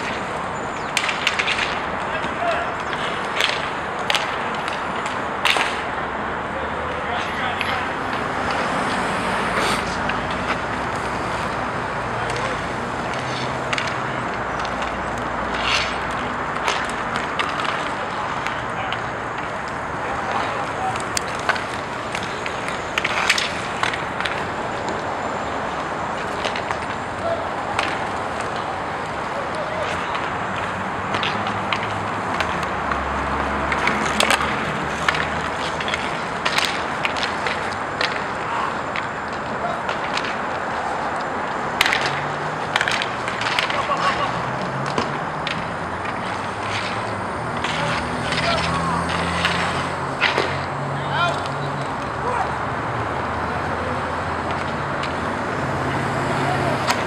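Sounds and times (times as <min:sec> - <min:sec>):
hockey sticks clicking: 0:00.0 - 0:06.0, 0:06.9 - 0:09.0, 0:09.6 - 0:57.0
skate wheels rolling and scraping: 0:00.0 - 0:57.0.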